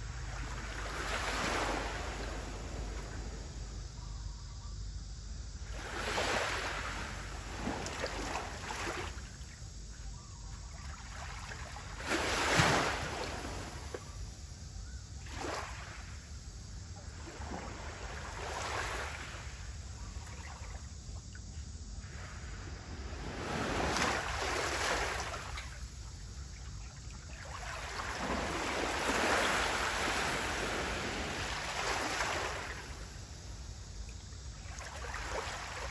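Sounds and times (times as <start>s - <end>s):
sea waves lapping on shore: 0.0s - 3.8s, 5.6s - 9.6s, 10.6s - 14.2s, 15.2s - 16.3s, 17.0s - 21.0s, 22.0s - 35.9s.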